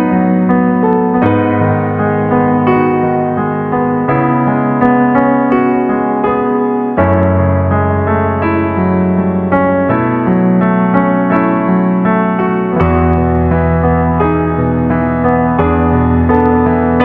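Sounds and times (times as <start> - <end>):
slow electric piano chords: 0.0 - 17.0.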